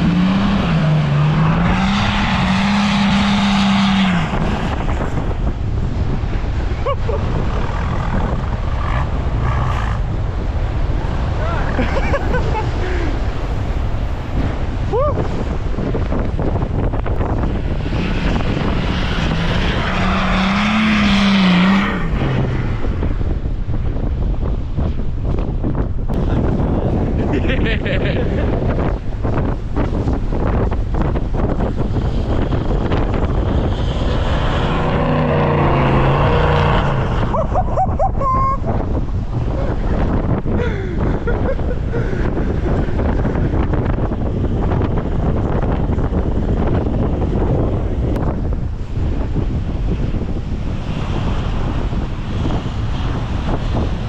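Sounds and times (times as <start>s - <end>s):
low rumbling wind: 0.0s - 54.0s
vehicle engine hum: 0.0s - 54.0s.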